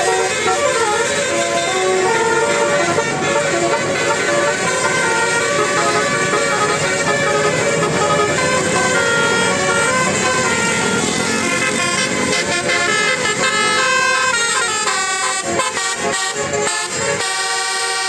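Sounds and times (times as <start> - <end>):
bus engine rumble: 0.0 - 18.0
multi-tone air horn tune: 0.0 - 18.0.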